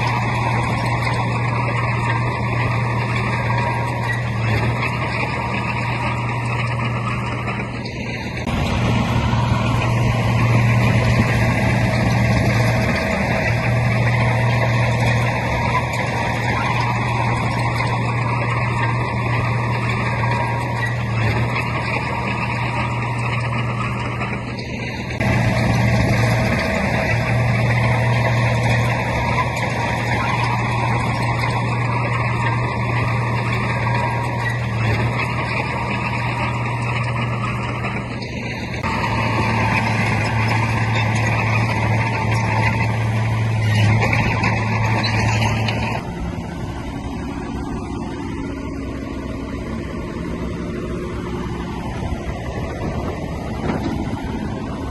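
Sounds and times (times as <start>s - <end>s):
heavy diesel machinery running: 0.0s - 54.9s.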